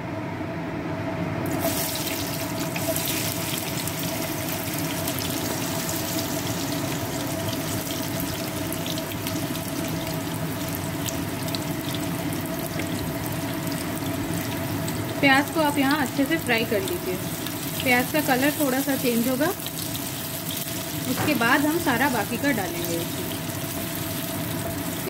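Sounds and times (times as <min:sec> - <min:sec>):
onion sizzling in oil: 0:01.4 - 0:25.0.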